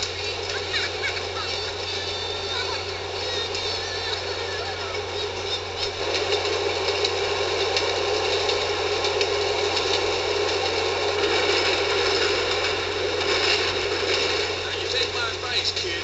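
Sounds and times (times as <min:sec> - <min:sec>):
train wheels rattling on rails: 0:00.0 - 0:16.0.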